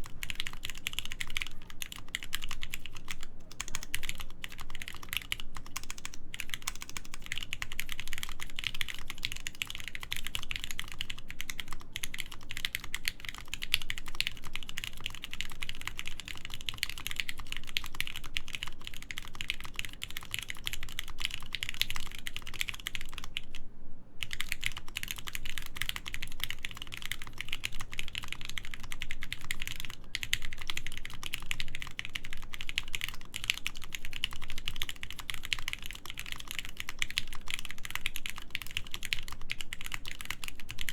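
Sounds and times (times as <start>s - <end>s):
mechanical keyboard typing: 0.0s - 23.6s, 24.2s - 40.9s.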